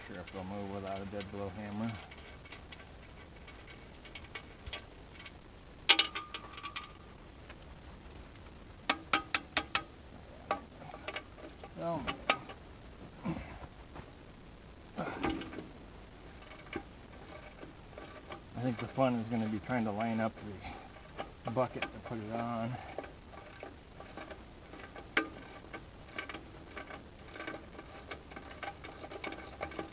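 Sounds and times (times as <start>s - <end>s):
hand tools clinking on metal: 0.0s - 7.0s, 8.9s - 12.6s, 16.4s - 29.9s.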